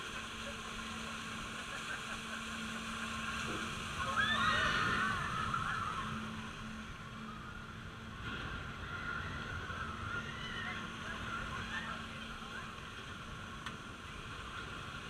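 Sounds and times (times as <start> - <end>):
ride low hum: 0.0 - 15.0.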